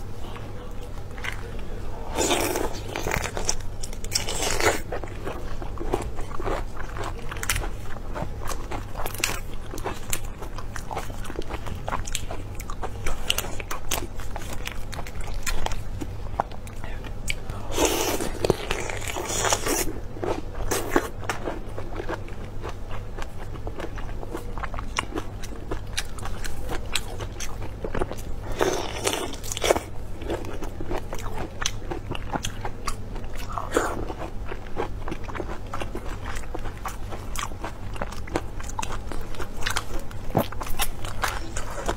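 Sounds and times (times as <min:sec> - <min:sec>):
person chewing crunchy food: 0:00.2 - 0:41.9.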